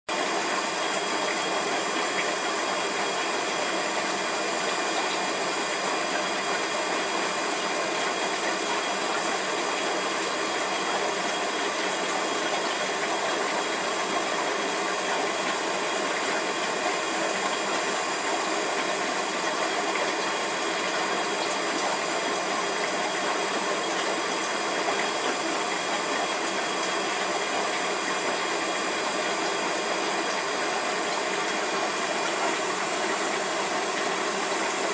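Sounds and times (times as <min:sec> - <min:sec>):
aquarium water and motor hiss: 0:00.1 - 0:34.9.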